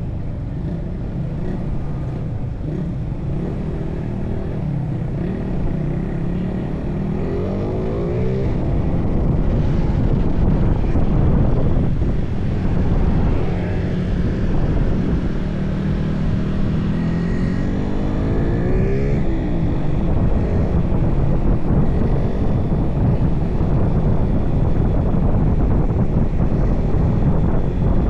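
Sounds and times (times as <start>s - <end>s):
wind rush on microphone: 0.0s - 28.0s
motorcycle engine running: 0.4s - 28.0s.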